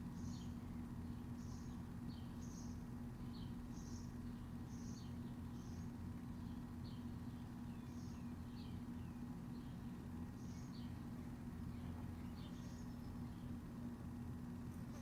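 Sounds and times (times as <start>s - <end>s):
steady low hum: 0.0s - 15.0s
small bird chirping: 0.1s - 13.7s.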